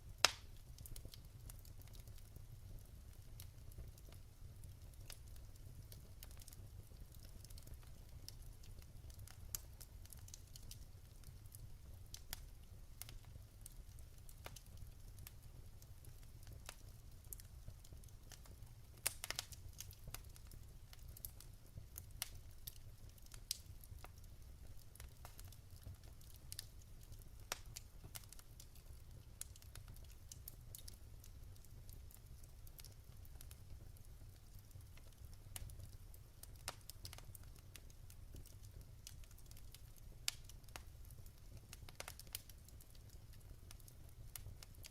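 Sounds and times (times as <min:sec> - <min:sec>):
low fire rumble: 0:00.0 - 0:44.9
wood fire crackling: 0:00.0 - 0:44.9.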